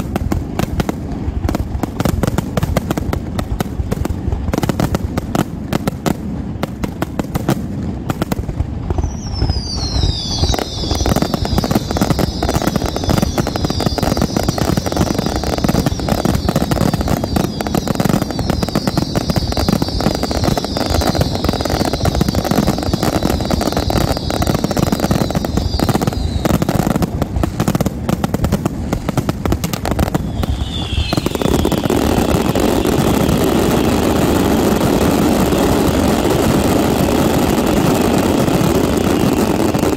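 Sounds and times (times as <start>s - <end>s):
fireworks bursting and crackling: 0.0s - 39.9s
fireworks whistles: 7.0s - 39.9s.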